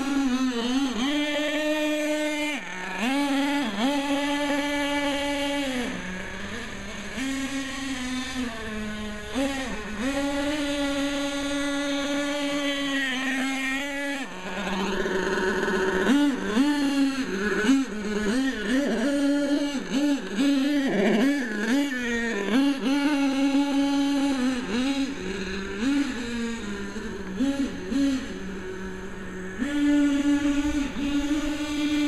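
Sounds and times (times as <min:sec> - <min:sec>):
small engine revving: 0:00.0 - 0:32.0.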